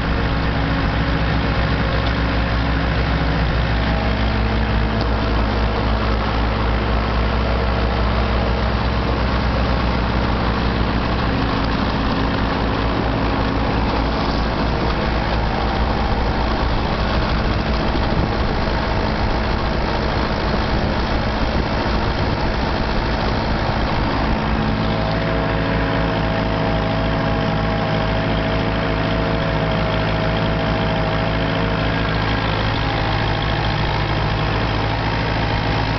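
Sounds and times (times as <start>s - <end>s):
diesel tractor engine under load: 0.0s - 35.9s
high steady whine: 0.0s - 35.9s.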